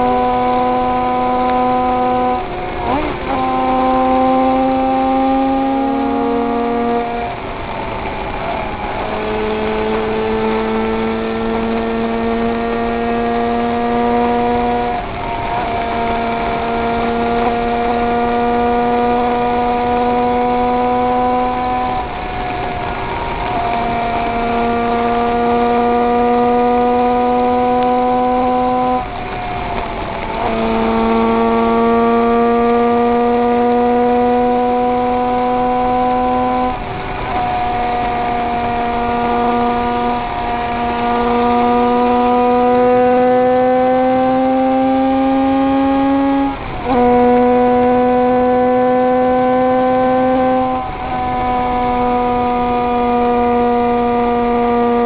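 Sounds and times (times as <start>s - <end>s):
racing motorcycle engine: 0.0s - 55.0s.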